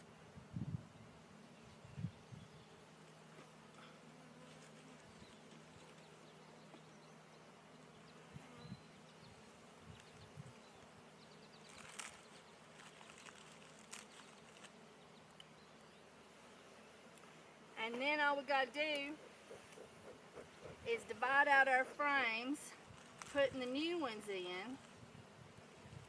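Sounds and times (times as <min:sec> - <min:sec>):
faint buzzing of bees: 0:00.0 - 0:26.0.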